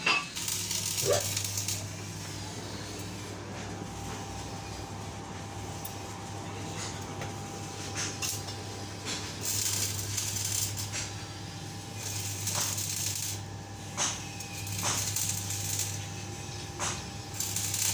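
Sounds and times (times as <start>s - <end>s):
welding arc crackling: 0.0s - 17.9s.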